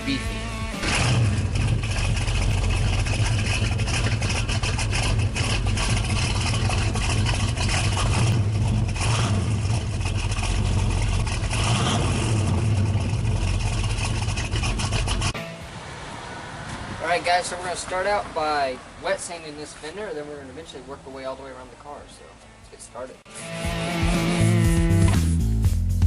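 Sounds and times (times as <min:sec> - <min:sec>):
car engine rumbling: 0:00.0 - 0:22.6.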